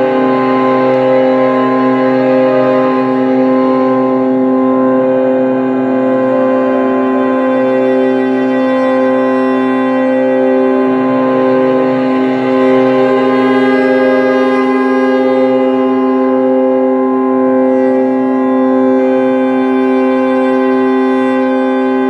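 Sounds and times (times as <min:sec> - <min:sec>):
drone music cello and keyboard: 0:00.0 - 0:22.0.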